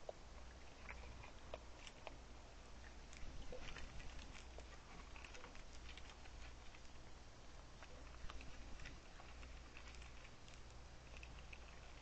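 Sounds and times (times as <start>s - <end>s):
animal crunching seeds: 0.0s - 12.0s.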